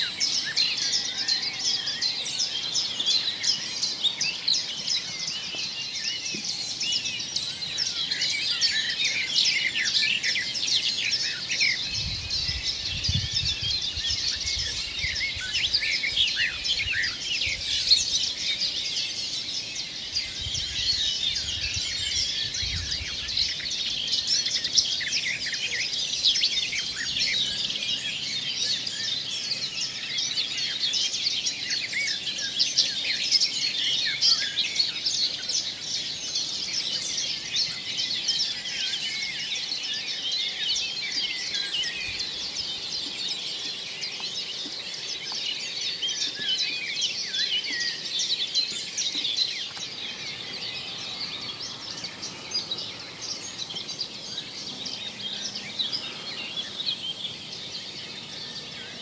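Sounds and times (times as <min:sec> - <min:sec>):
birds singing and calling: 0:00.0 - 0:59.0.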